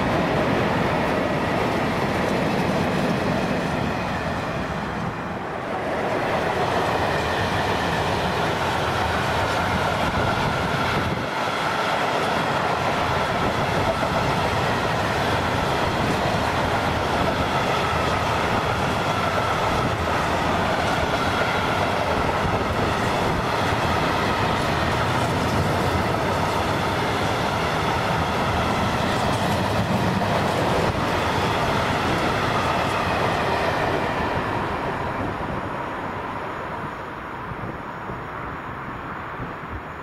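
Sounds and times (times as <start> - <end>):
train rumbling past: 0.0 - 40.0.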